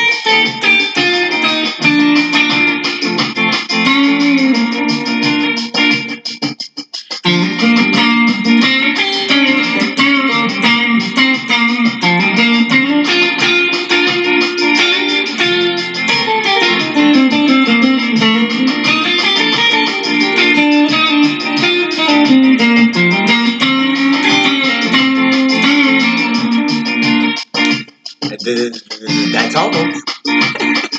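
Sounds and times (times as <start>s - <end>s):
guitar music with bass line: 0.0s - 30.9s.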